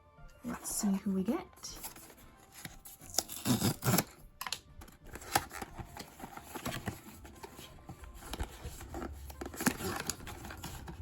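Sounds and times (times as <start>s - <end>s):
packaging being opened by hand: 1.8s - 11.0s.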